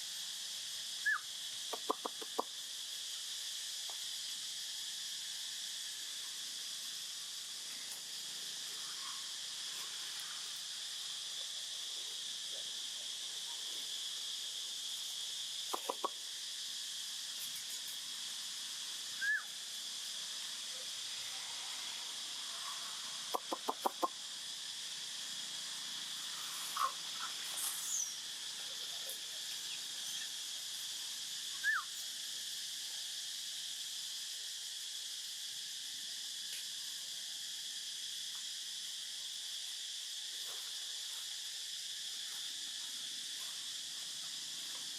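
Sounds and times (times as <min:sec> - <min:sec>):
insects buzzing: 0:00.0 - 0:44.9.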